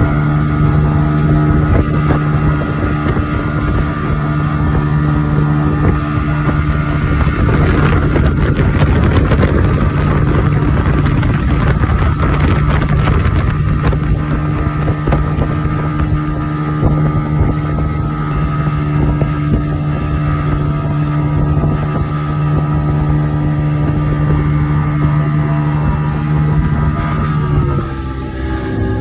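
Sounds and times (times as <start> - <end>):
motorboat engine running: 0.0 - 29.0
wind on microphone: 0.0 - 29.0.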